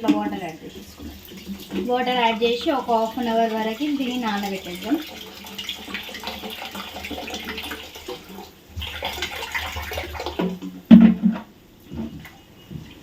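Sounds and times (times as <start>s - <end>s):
tap water running into pot: 0.0s - 11.1s.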